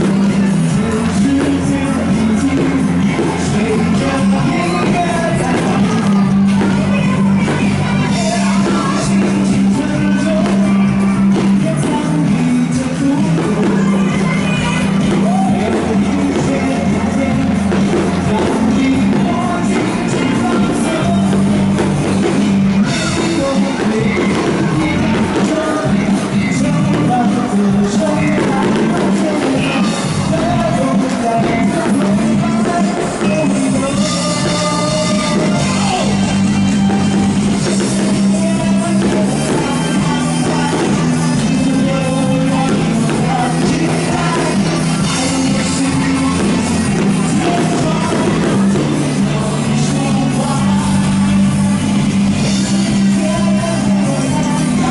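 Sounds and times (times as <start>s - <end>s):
live band playing pop-rock: 0.0s - 54.9s
person singing: 0.0s - 54.9s.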